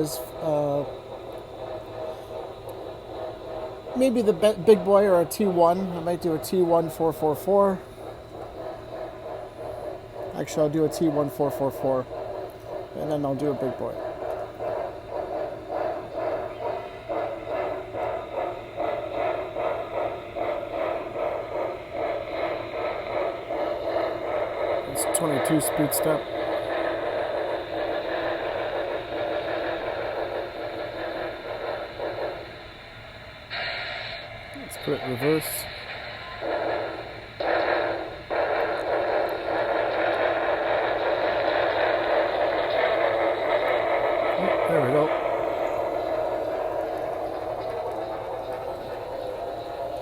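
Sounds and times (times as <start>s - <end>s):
model train steam chuffing from speaker: 0.0s - 50.0s.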